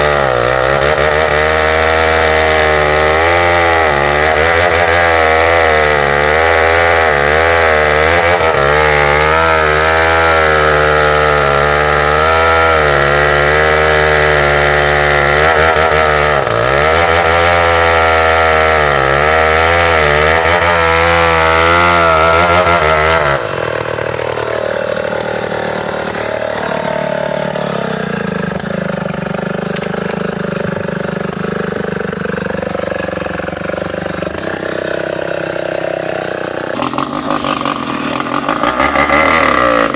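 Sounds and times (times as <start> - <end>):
chainsaw cutting hardwood: 0.0 - 39.9.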